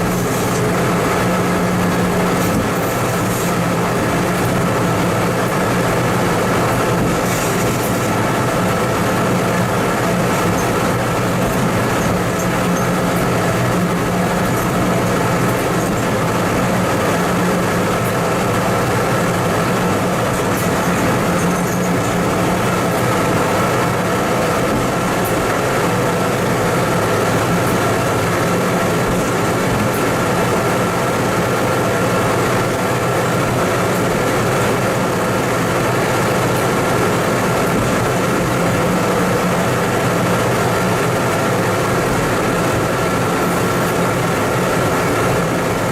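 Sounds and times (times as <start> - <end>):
diesel engine running: 0.0 - 45.9
steady high whine: 0.0 - 45.9.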